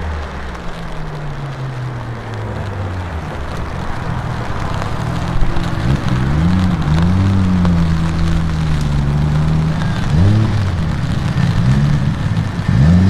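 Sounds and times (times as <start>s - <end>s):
sports car engine revving: 0.0s - 13.0s.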